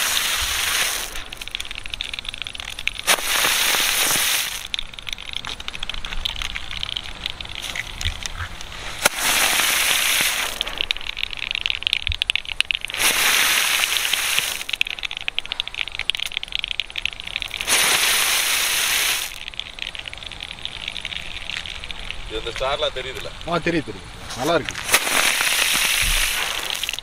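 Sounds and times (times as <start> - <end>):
firework pop: 0.0 - 22.2, 24.7 - 27.0
fireworks crackling: 0.0 - 27.0
fireworks hissing spurts: 0.0 - 27.0.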